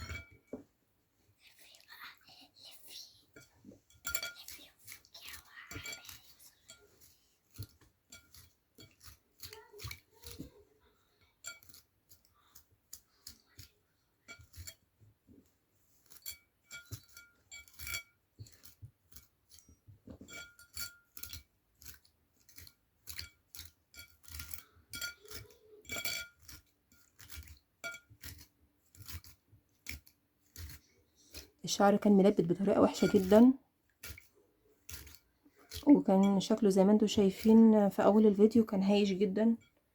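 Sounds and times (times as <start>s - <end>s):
comb clicking against bowl: 3.3s - 39.9s.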